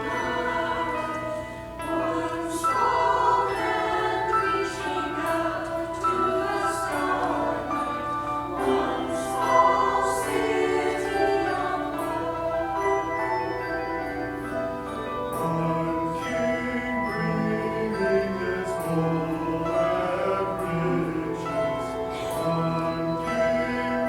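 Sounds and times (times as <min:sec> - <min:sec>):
choir singing: 0:00.0 - 0:24.0
instrumental accompaniment: 0:00.0 - 0:24.0.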